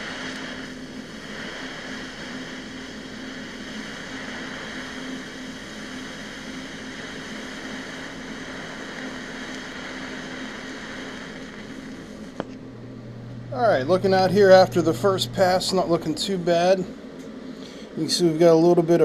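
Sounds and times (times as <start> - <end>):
low steady hum: 0.0 - 19.0
welding arc hiss and buzz: 0.0 - 19.0.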